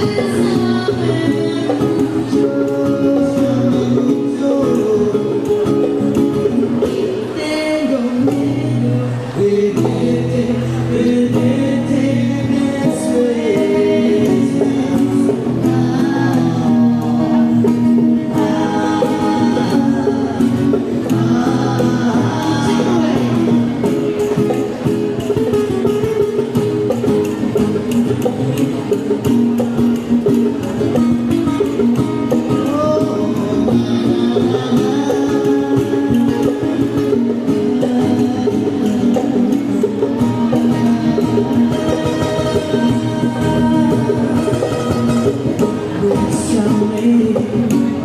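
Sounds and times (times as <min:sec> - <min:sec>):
person singing: 0:00.0 - 0:27.0, 0:31.5 - 0:48.0
guitar and plucked strings: 0:00.0 - 0:48.0.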